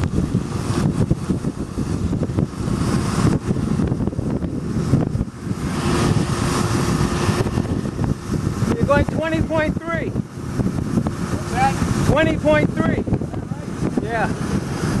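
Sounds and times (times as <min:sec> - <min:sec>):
golf cart driving: 0:00.0 - 0:15.0
wind buffeting microphone: 0:00.0 - 0:15.0.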